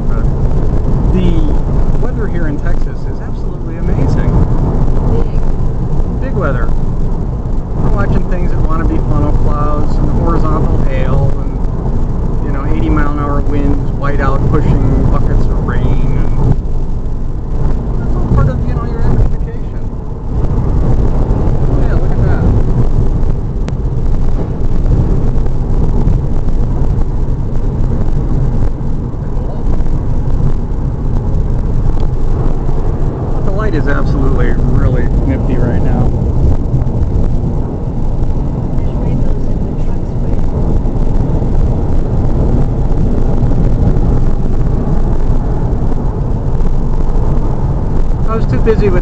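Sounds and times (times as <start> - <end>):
road wind and engine rumble in car: 0.0 - 49.0.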